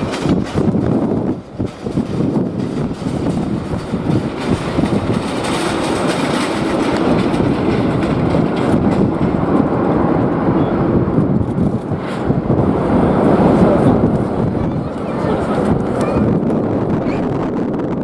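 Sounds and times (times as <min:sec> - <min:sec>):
jet engine rumble: 0:00.0 - 0:18.0
wind buffeting microphone: 0:00.0 - 0:18.0.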